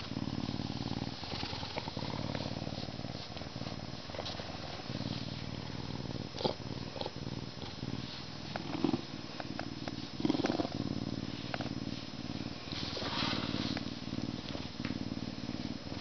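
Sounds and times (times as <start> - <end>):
deep rumbling purr: 0.0 - 16.0.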